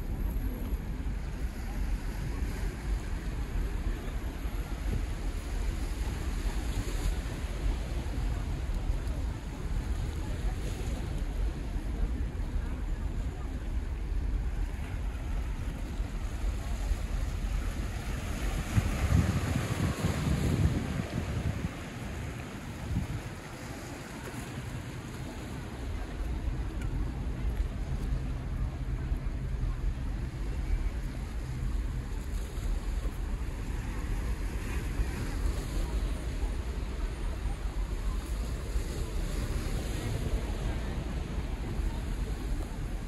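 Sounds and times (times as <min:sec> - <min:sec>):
small waves breaking on boulders: 0:00.0 - 0:43.0
wind buffeting microphone: 0:00.0 - 0:43.0.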